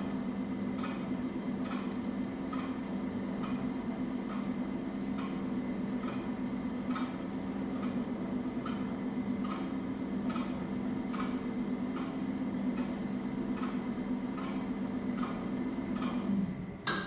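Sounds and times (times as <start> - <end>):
coil winding machine motor hum: 0.0 - 17.0.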